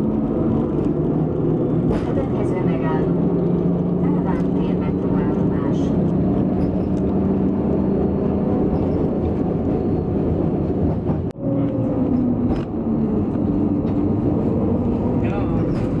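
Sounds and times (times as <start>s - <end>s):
tram motor hum: 0.0s - 16.0s
tram wheels rumbling: 0.0s - 16.0s.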